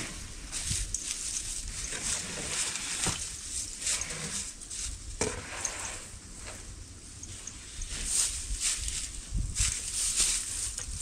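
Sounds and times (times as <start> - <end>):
outdoor rustle: 0.0 - 11.0.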